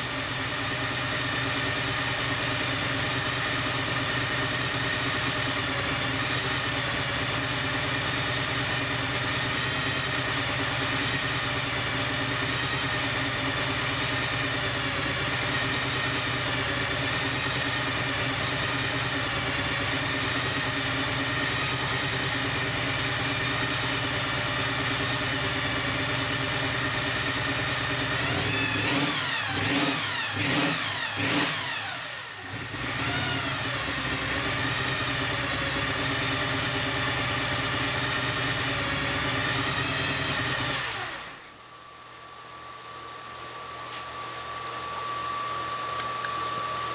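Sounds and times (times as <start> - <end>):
car engine idling and revving: 0.0 - 41.5.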